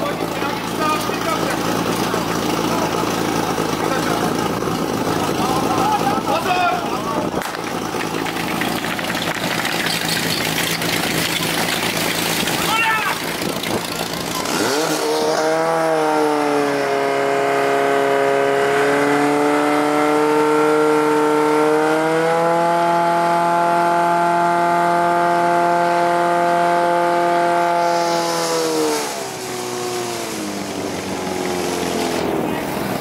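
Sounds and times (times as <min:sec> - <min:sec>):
pump engine running: 0:00.0 - 0:17.7, 0:23.4 - 0:33.0.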